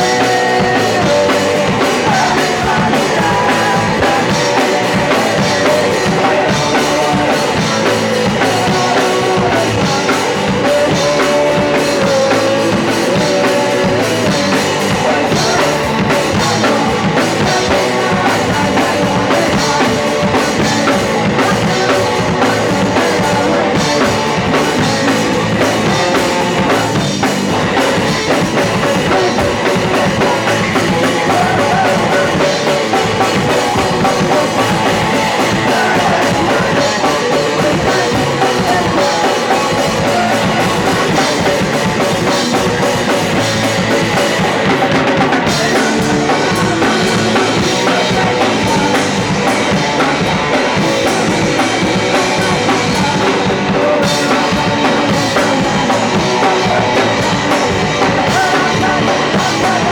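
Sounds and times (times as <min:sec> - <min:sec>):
bass guitar: 0:00.0 - 0:59.9
distorted electric guitar: 0:00.0 - 0:59.9
pounding drum kit: 0:00.0 - 0:59.9.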